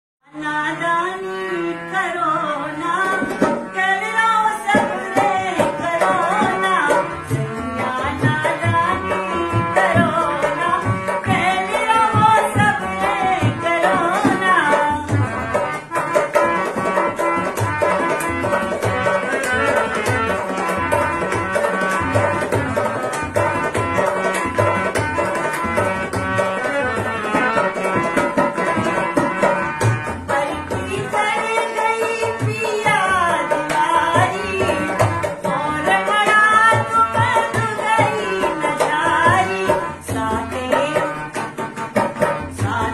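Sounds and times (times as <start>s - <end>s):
harmonium chords: 0.3s - 42.9s.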